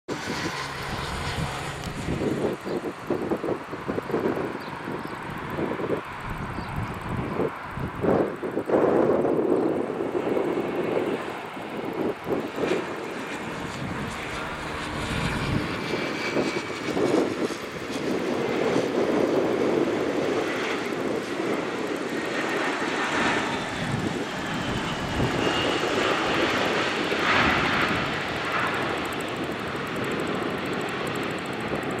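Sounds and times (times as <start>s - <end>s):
high jet engine whine: 0.1s - 32.0s
jet airliner engines landing: 0.1s - 32.0s.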